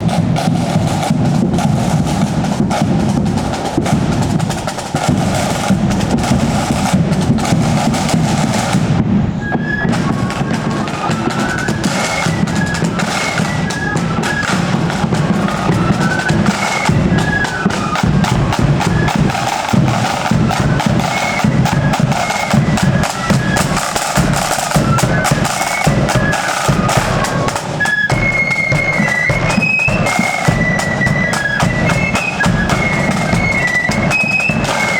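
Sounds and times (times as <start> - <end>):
snare and bass drums: 0.0 - 34.9
wind instruments playing tune: 0.0 - 34.9.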